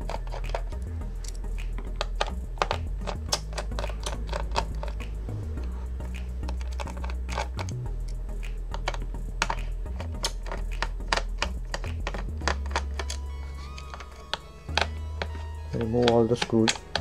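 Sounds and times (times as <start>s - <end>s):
screwdriver clicking on metal screws: 0.0s - 5.0s, 6.0s - 17.0s
background music with bass line: 0.0s - 17.0s.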